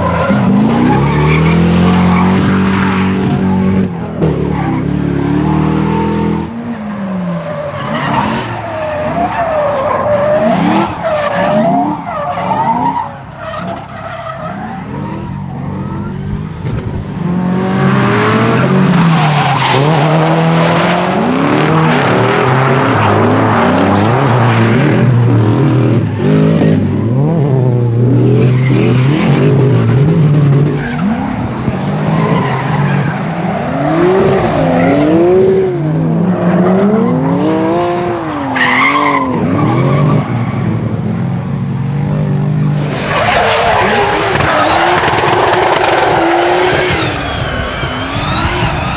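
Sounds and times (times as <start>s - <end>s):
car engines revving hard: 0.0s - 48.9s
tyres squealing and skidding: 0.0s - 48.9s.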